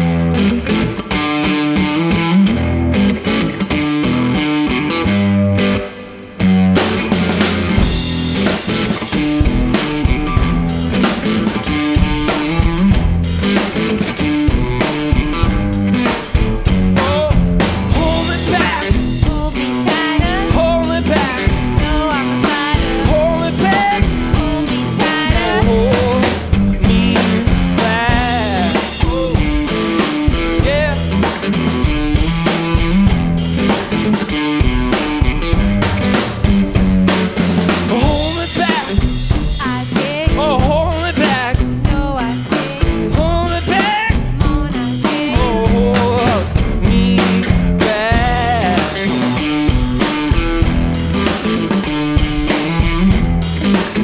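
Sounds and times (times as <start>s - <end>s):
electric guitar bending notes: 0.0s - 54.0s
drum kit: 5.6s - 54.0s.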